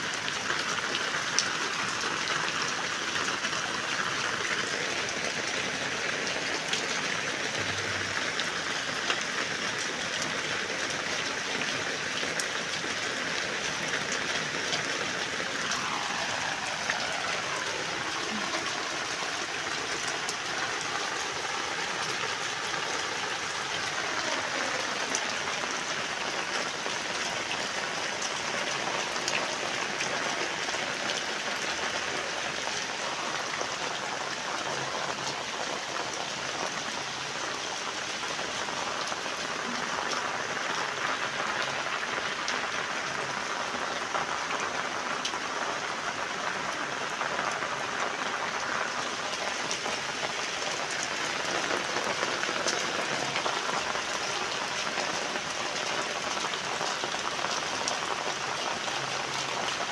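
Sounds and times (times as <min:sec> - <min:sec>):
rain on water and concrete: 0:00.0 - 0:59.9.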